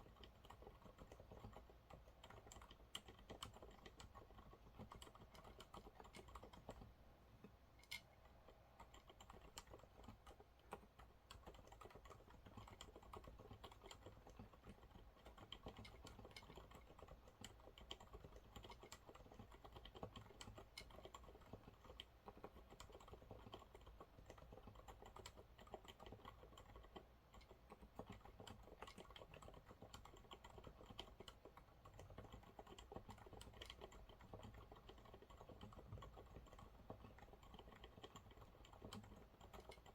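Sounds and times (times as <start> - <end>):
fast typing on mechanical keyboard: 0.0 - 7.0, 8.4 - 39.9.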